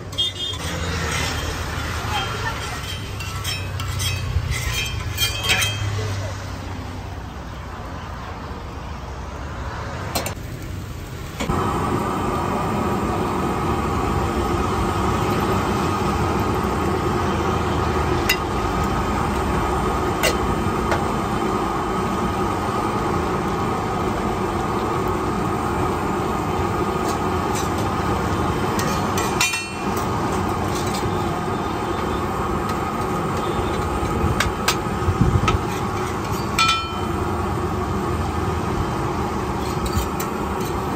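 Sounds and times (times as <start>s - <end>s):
egg sizzling on a griddle: 0.3s - 5.8s, 10.4s - 40.9s.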